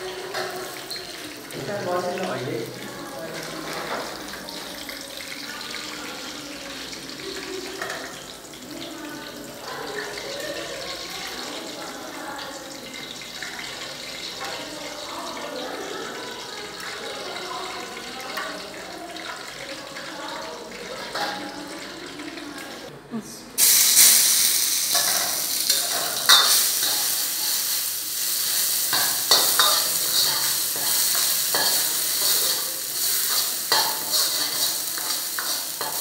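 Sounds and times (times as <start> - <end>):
hot oil sizzling: 0.0 - 22.9, 23.6 - 36.0.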